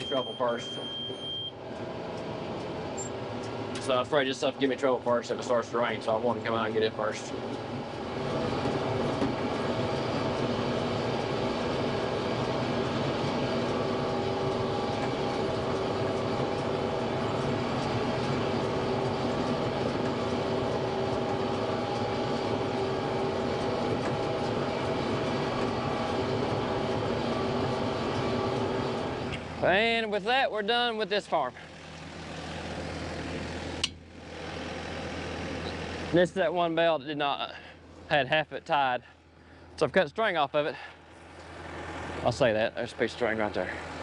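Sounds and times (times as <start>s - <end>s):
tractor engine running under load: 1.5s - 44.0s.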